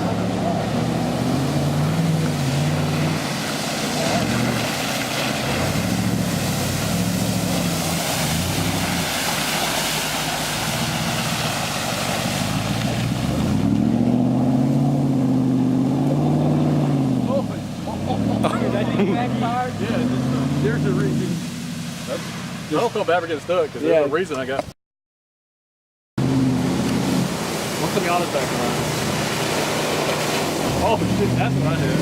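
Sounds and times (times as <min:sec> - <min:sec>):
car engine revving: 0:00.0 - 0:23.7, 0:26.2 - 0:32.0.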